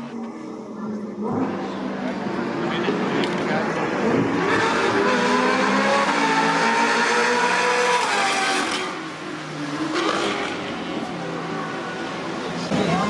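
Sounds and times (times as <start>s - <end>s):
cars driving past at speed: 2.2s - 13.0s.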